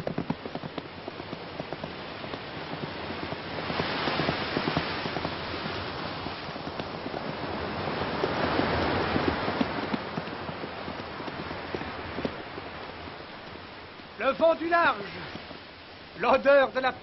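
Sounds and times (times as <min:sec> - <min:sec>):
horses galloping on sand: 0:00.0 - 0:17.0
surf breaking: 0:01.4 - 0:17.0.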